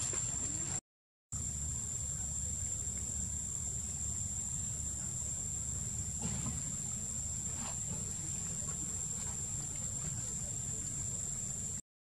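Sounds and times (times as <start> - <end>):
insects droning: 0.0 - 0.8, 1.4 - 11.8.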